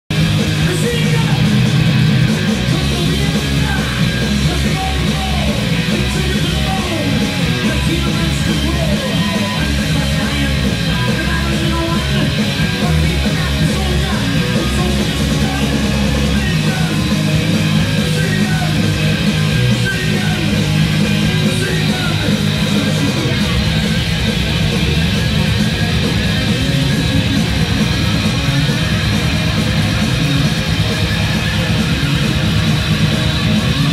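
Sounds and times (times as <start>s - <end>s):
heavy metal band playing live: 0.1s - 33.9s.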